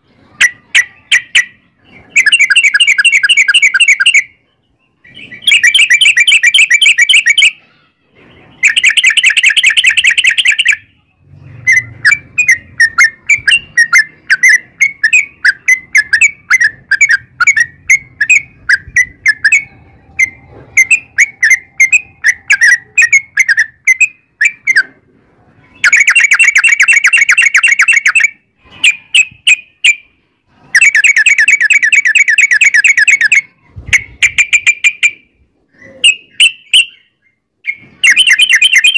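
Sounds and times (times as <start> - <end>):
bird fast rolling chatter: 0.0 - 38.9.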